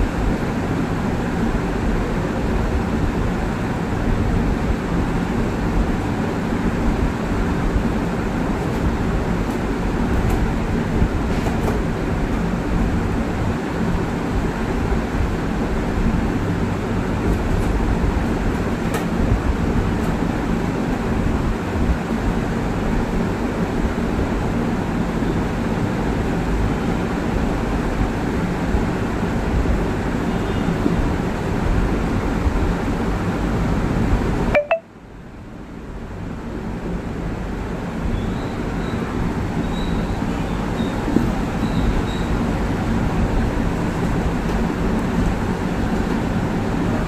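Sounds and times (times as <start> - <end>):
low rumbling background noise: 0.0 - 47.0.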